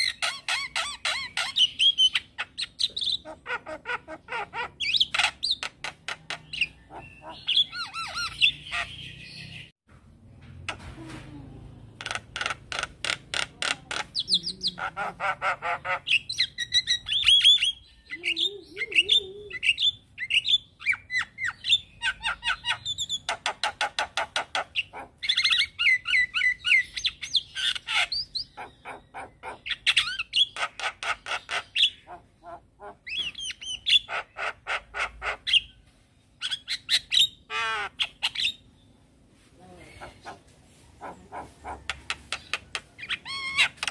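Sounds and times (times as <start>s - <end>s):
myna bird singing: 0.0s - 9.8s, 10.7s - 43.9s.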